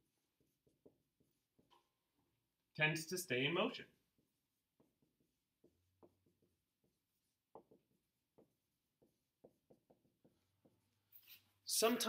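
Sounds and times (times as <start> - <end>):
marker writing on whiteboard: 0.0 - 11.6.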